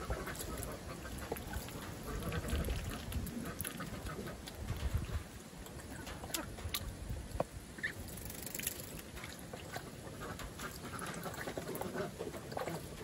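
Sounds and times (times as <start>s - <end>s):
ducks splashing in water: 0.0s - 7.1s, 7.8s - 13.0s.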